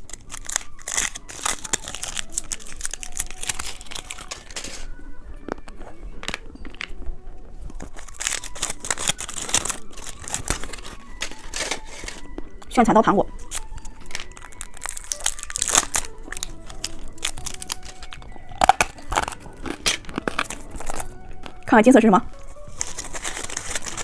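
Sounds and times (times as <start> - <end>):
plastic wrapper crinkling: 0.0 - 24.0.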